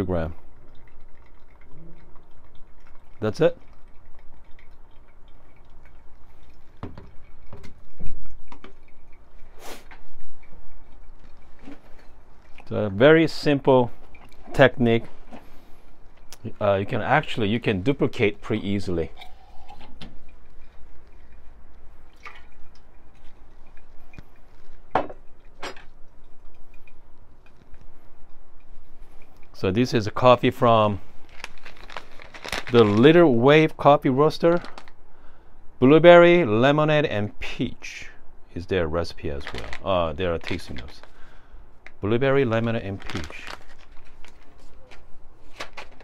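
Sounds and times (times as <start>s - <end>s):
coffee dripping: 0.0s - 37.7s, 39.0s - 45.2s.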